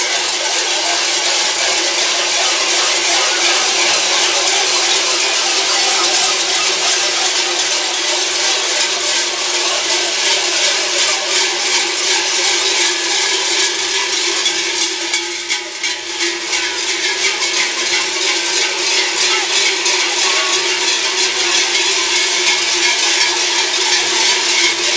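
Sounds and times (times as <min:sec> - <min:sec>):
cowbells clanging: 0:00.0 - 0:24.9.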